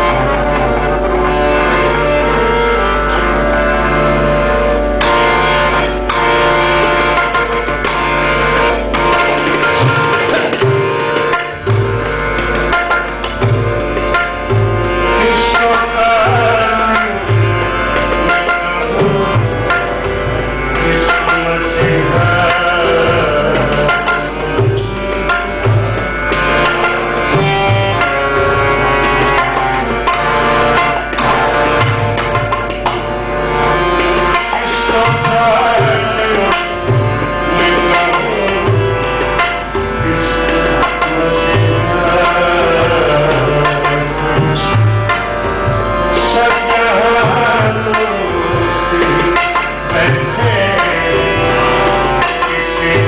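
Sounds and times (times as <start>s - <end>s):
harmonium chords: 0.0s - 53.0s
tabla rhythm: 0.0s - 53.0s.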